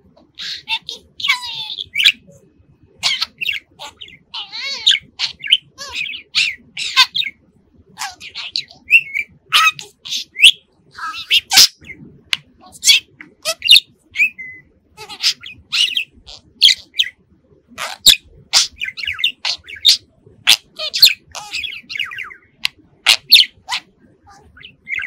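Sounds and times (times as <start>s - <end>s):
budgerigar chattering: 0.2s - 2.4s, 3.0s - 7.4s, 8.0s - 17.2s, 17.8s - 25.0s.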